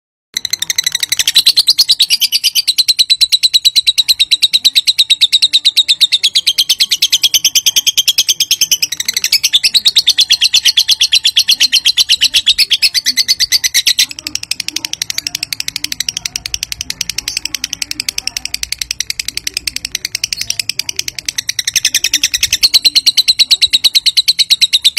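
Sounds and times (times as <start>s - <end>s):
lovebird chattering call: 0.4s - 24.9s.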